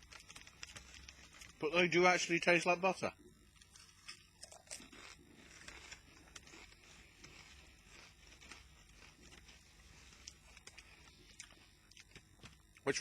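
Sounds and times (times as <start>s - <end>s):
potato crisps being chewed: 0.0s - 1.9s, 3.5s - 13.0s.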